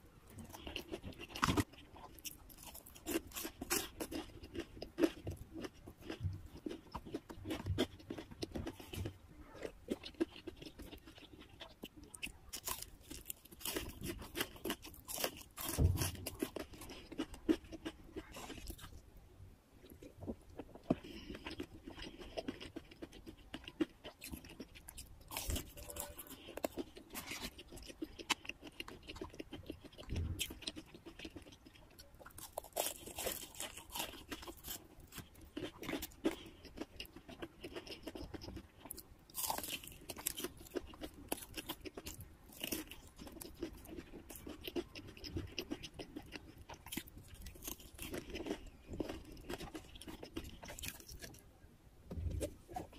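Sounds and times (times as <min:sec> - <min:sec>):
chewing crunchy fried chicken: 0:00.0 - 0:19.2, 0:19.8 - 0:52.9.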